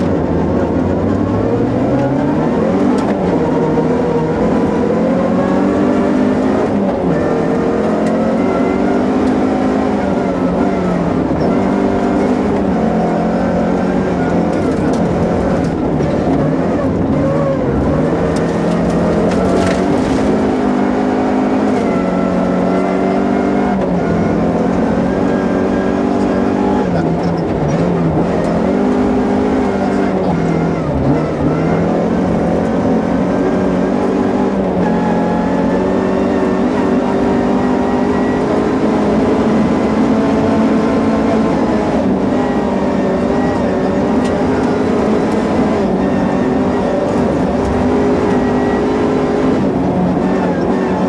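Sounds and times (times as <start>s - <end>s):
rally car engine revving: 0.0s - 51.0s.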